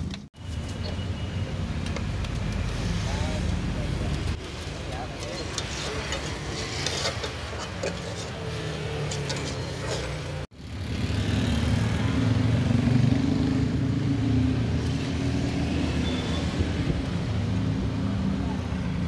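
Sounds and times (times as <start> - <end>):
street noise: 0.0 - 19.0.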